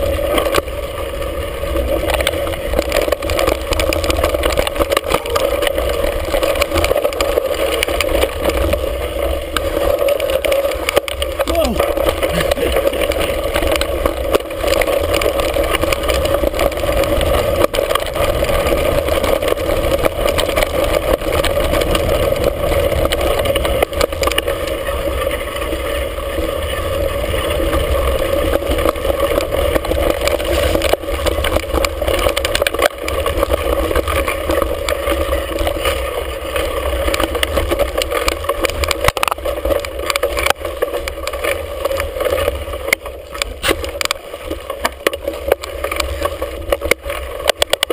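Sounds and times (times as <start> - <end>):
bike rattling over bumps: 0.0 - 47.9
wind and tyre noise: 0.0 - 47.9.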